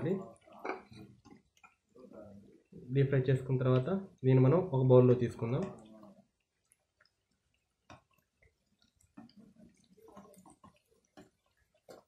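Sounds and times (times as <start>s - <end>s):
food crackling in frying oil: 0.0s - 12.0s.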